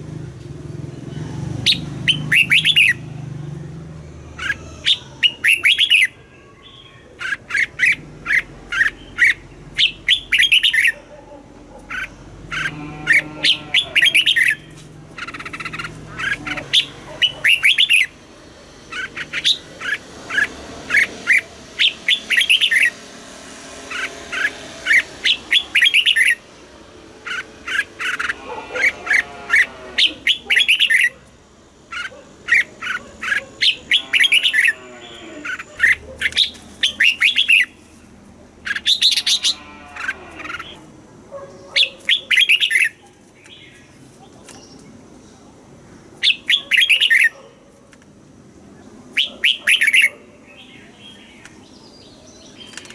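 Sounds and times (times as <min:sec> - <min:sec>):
bird singing: 0:00.9 - 0:11.1, 0:11.7 - 0:23.1, 0:23.8 - 0:26.6, 0:27.2 - 0:31.2, 0:31.9 - 0:37.8, 0:38.6 - 0:47.5, 0:48.7 - 0:52.9.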